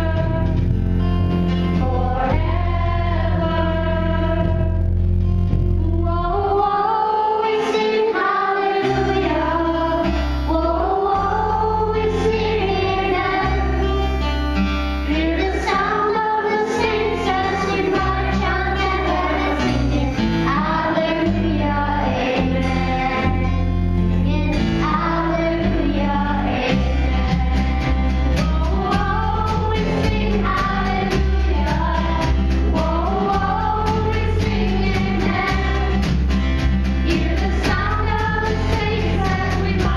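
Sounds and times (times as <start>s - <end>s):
instrumental accompaniment: 0.0s - 6.6s, 7.4s - 39.9s
sustained bass notes: 0.0s - 39.9s
choir singing: 1.8s - 4.7s, 5.9s - 14.2s, 15.1s - 23.7s, 24.6s - 39.9s.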